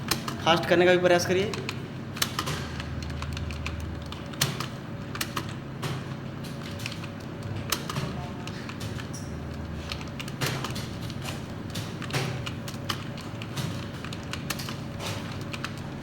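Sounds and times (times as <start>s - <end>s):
keyboard keystrokes: 0.0s - 16.0s
steady low hum: 0.0s - 16.0s.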